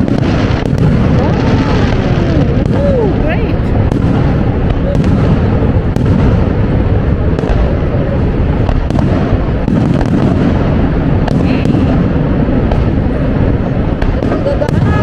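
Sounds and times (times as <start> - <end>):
fireworks booming: 0.0 - 15.0
fireworks cracking: 0.0 - 15.0.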